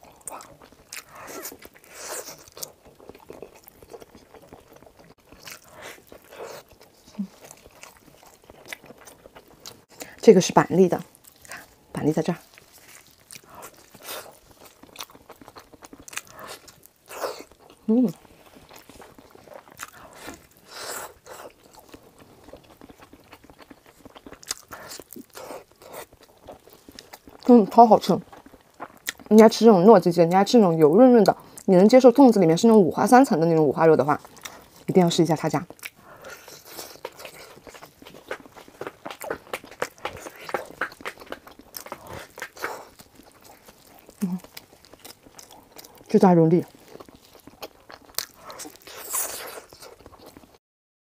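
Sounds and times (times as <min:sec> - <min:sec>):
close chewing and biting: 0:00.0 - 0:10.2, 0:11.0 - 0:29.7, 0:33.8 - 0:50.6.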